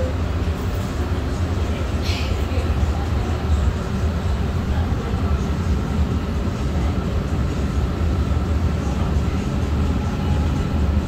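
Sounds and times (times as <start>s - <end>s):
train car rumble and hum: 0.0s - 11.0s.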